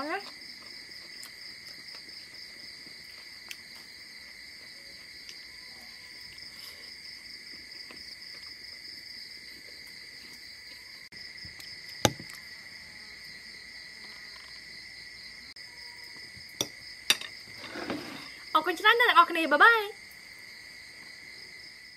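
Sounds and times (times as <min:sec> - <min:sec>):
crickets chirping: 0:00.0 - 0:21.9.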